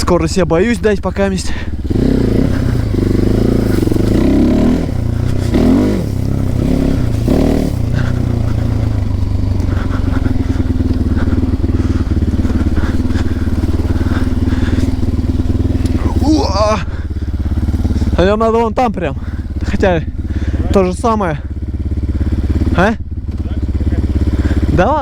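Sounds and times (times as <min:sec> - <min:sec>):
small motorcycle engine revving: 0:00.0 - 0:25.0.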